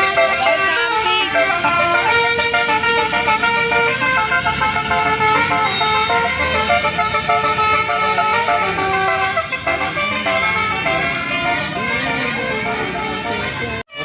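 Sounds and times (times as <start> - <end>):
bus horn playing a tune: 0.0 - 14.0
vehicle rumble: 0.0 - 14.0.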